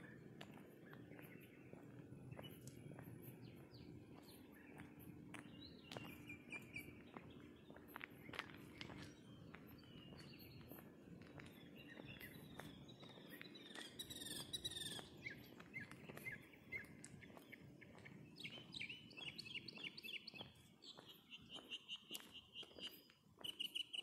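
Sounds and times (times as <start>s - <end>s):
distant songbirds chirping: 0.0s - 24.0s.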